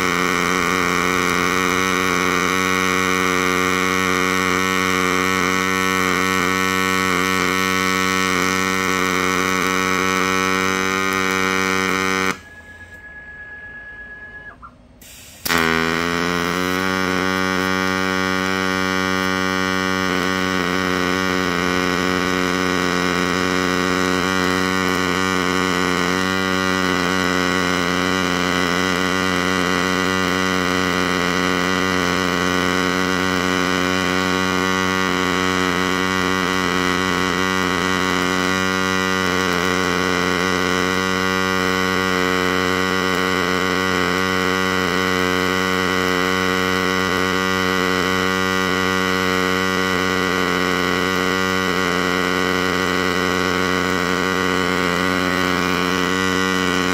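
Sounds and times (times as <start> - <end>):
welding arc buzzing: 0.0 - 56.9.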